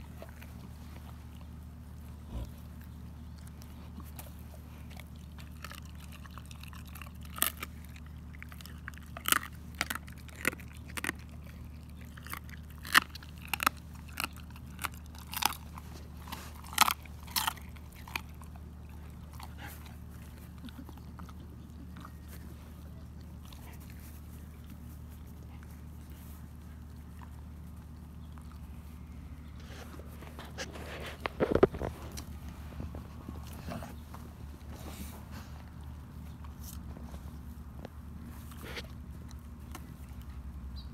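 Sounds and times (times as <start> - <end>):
dog chewing: 0.0 - 40.7
dog crunching bones: 0.0 - 40.7
steady low hum: 0.0 - 40.9.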